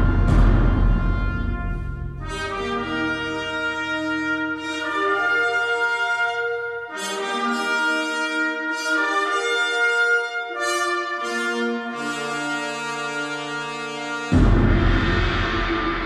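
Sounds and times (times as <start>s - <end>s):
slow brass music through loudspeakers: 0.0s - 16.0s.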